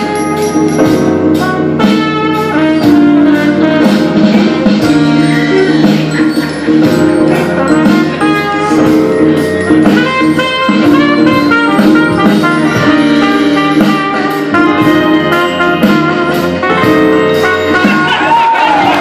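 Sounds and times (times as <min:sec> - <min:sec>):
jazzy music with horns: 0:00.0 - 0:19.0
steady drum beat: 0:00.0 - 0:19.0.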